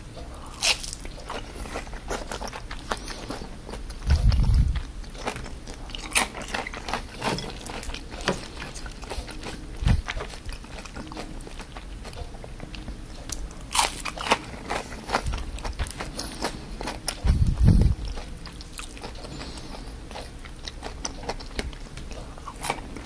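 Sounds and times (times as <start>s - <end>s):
crunchy fritters being chewed: 0.2s - 23.0s.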